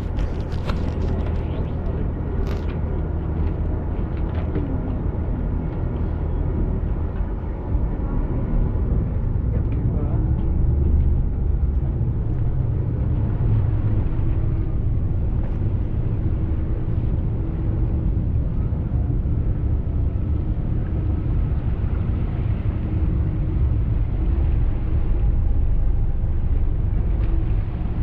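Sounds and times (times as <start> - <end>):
ferry engine rumbling: 0.0 - 28.0.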